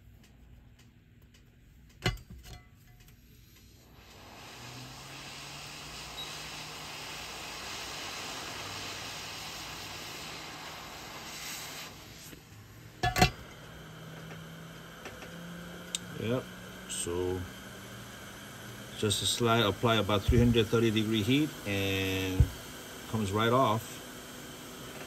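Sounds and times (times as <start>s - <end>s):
heat gun blowing hot air: 3.4s - 25.0s.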